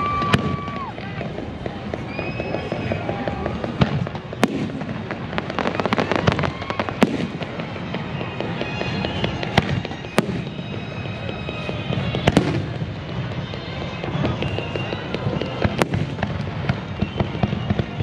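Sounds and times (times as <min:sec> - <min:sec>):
fireworks bursting with bangs: 0:00.0 - 0:18.0
fireworks crackling: 0:00.0 - 0:18.0.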